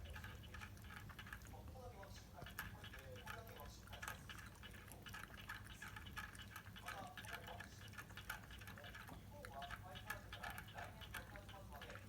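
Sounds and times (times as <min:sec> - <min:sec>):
puppy lapping water: 0:00.0 - 0:12.0.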